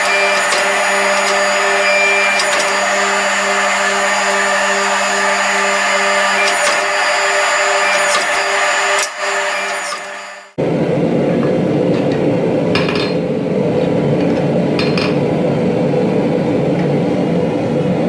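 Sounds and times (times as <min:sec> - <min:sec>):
electric shop machine whining: 0:00.0 - 0:18.0.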